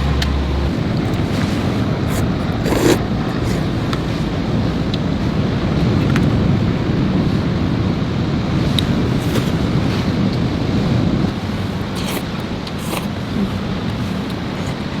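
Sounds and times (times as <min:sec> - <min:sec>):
storm wind: 0:00.0 - 0:15.0
waves: 0:00.0 - 0:15.0.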